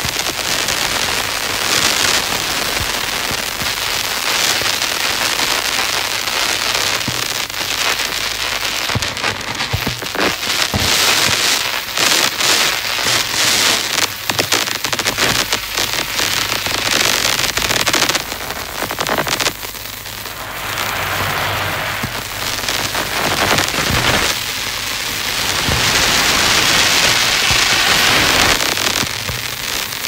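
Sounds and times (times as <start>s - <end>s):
crackling and hissing noise music: 0.0s - 30.0s.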